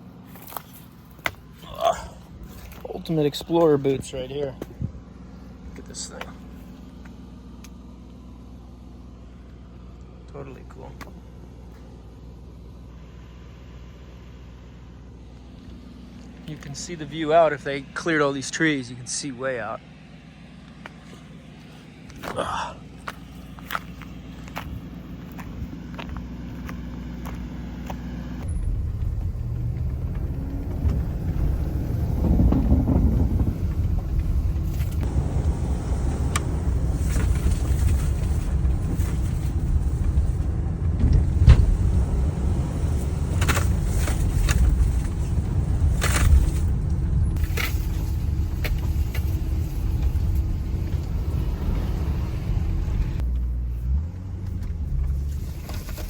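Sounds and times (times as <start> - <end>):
car rumbling over rough ground: 0.0 - 56.0.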